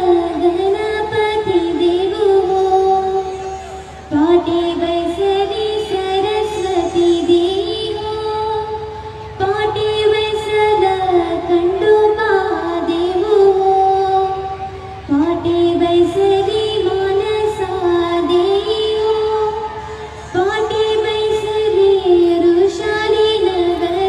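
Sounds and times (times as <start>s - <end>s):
woman singing wedding song: 0.0s - 24.0s.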